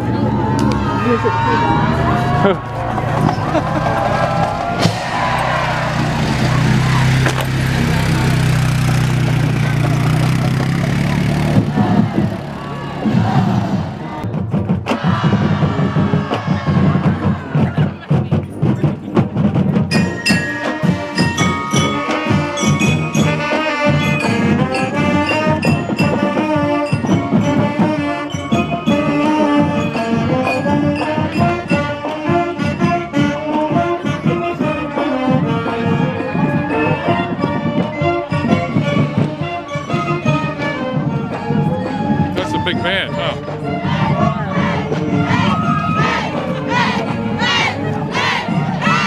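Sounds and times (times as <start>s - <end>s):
sousaphones and brass: 0.0s - 14.2s, 19.9s - 49.0s
marching band playing: 0.0s - 49.0s
marching drums: 0.0s - 49.0s.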